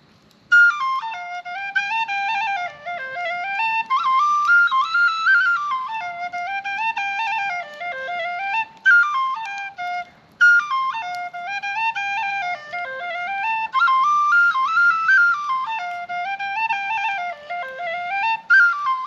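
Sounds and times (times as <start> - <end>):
flute-like instrument playing tune: 0.5 - 19.0.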